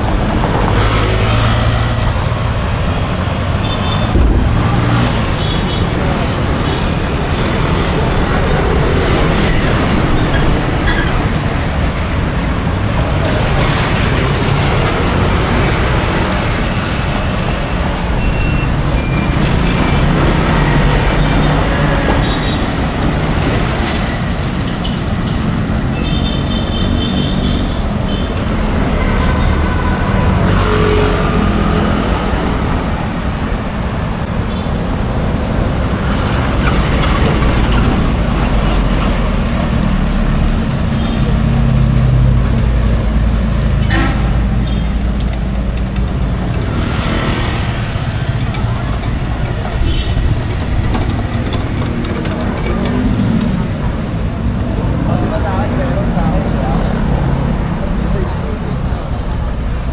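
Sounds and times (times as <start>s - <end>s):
vehicle engines passing: 0.0s - 59.9s.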